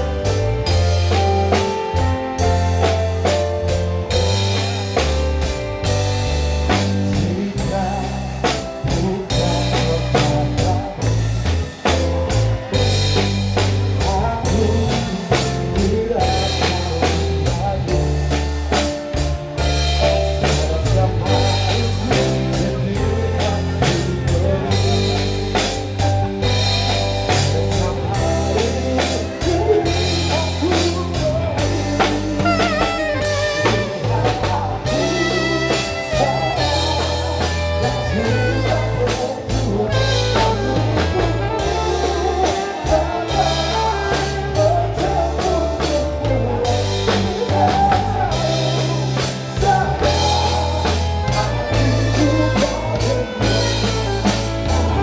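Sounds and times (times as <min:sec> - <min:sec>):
band playing: 0:00.0 - 0:55.0
person singing: 0:00.0 - 0:55.0.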